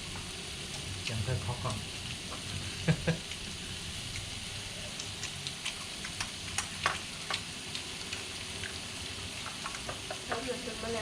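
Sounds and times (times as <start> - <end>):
meat sizzling on grill pan: 0.0 - 11.0.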